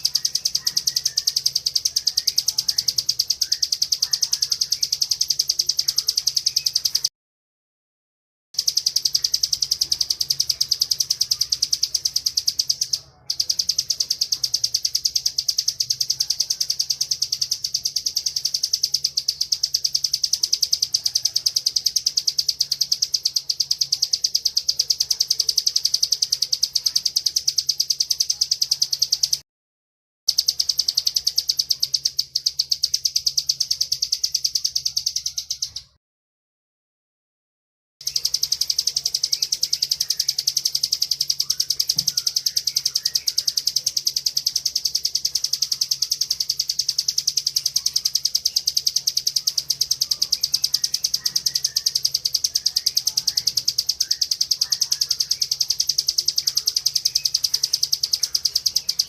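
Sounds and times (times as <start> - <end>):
bird chattering song: 0.0 - 7.1, 8.6 - 29.4, 30.3 - 36.0, 38.0 - 59.0.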